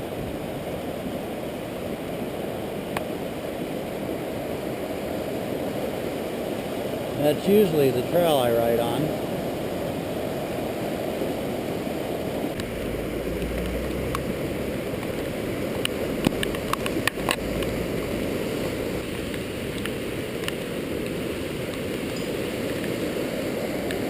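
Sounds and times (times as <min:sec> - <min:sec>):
rushing flood water: 0:00.0 - 0:24.0.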